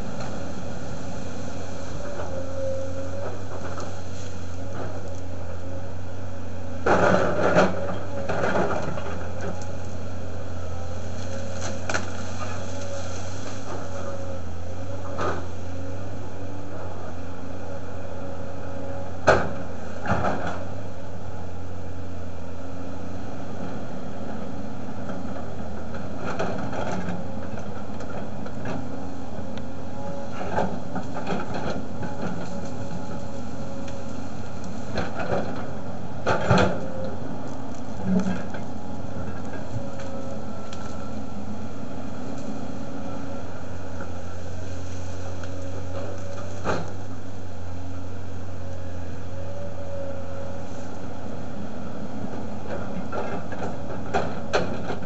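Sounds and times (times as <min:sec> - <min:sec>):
excavator diesel engine drone: 0:00.0 - 0:55.0.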